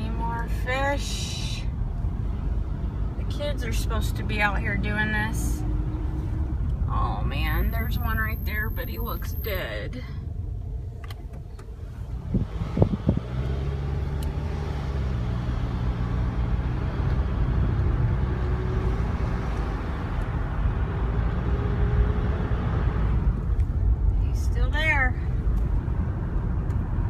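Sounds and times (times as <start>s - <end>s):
car engine running: 0.0s - 27.0s
road noise: 0.0s - 27.0s.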